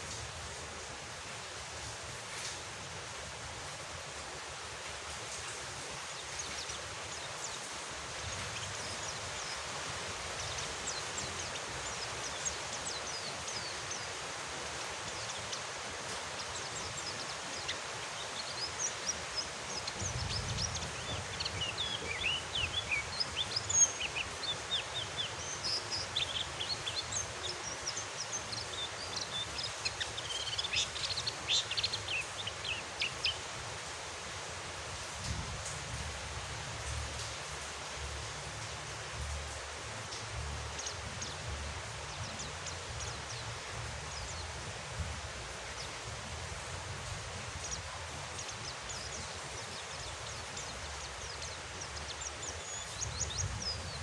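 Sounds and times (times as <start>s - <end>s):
songbird chirping: 0.0s - 54.0s
steady rain: 0.0s - 54.0s.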